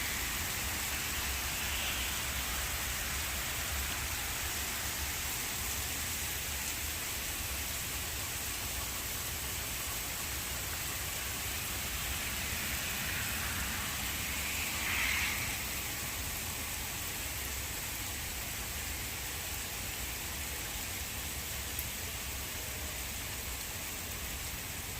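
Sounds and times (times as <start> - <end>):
rain hiss on moving car: 0.0 - 24.9.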